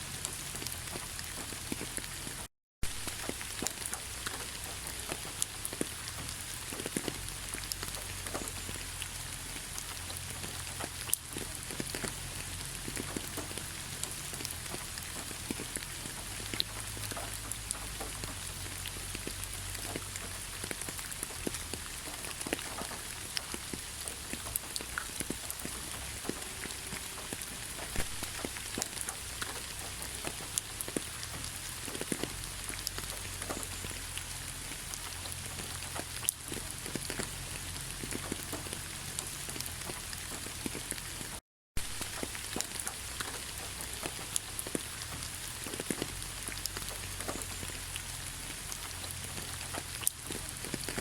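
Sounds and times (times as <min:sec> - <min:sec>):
sharp raindrop ticks: 0:00.0 - 0:51.0
heavy rain hissing: 0:00.1 - 0:51.0.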